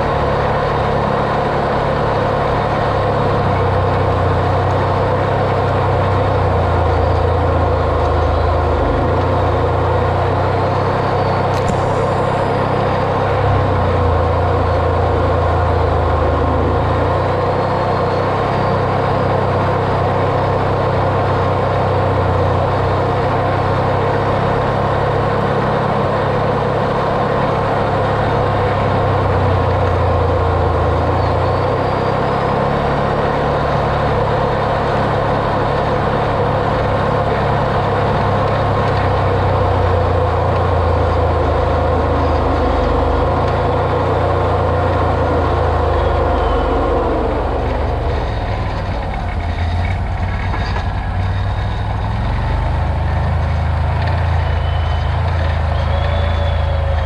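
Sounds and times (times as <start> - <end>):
steady whine: 0.0 - 57.0
vehicle engine running: 0.0 - 57.0.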